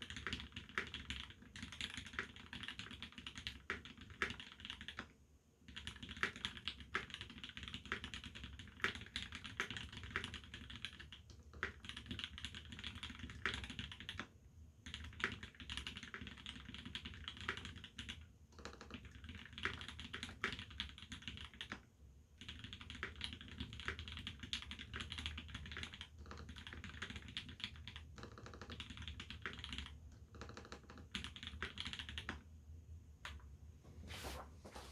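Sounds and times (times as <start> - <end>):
typing on mechanical keyboard: 0.0 - 32.4.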